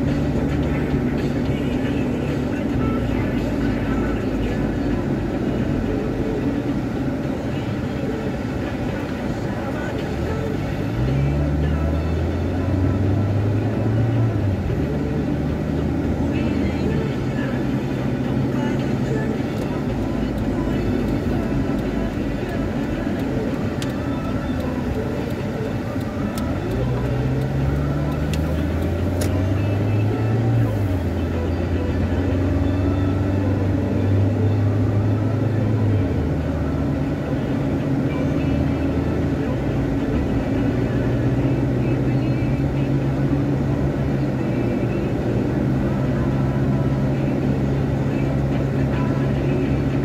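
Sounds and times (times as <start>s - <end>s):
car engine and tyre noise: 0.0s - 50.0s
deeper engine hum: 0.0s - 50.0s.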